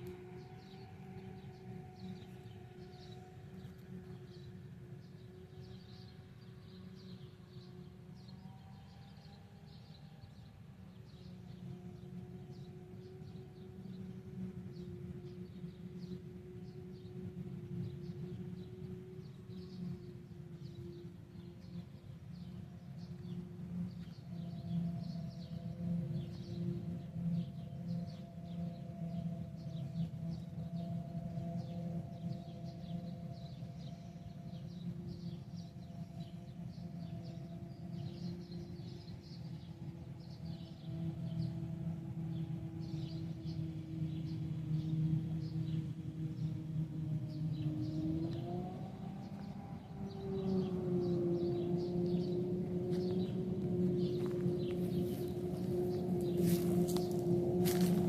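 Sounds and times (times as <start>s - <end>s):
machinery hum: 0.0s - 58.0s
small birds chirping: 0.0s - 58.0s.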